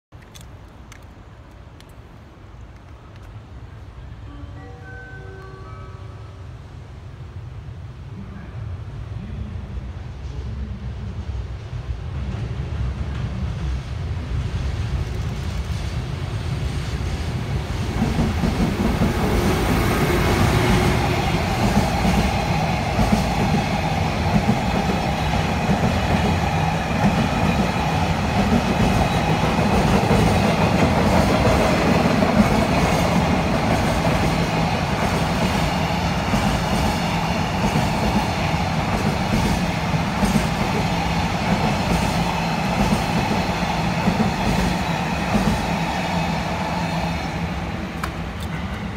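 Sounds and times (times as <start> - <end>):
train rumbling past: 2.2 - 48.9.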